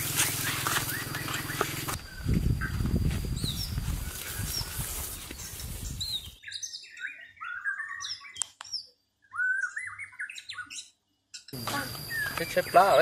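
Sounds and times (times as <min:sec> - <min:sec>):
songbird chirping: 0:00.4 - 0:13.0.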